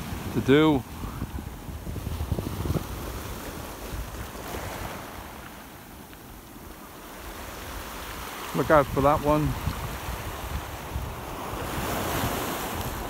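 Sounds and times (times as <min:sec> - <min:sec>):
waves washing up shingle beach: 0:00.0 - 0:13.0
wind rumbling on microphone: 0:00.0 - 0:13.0.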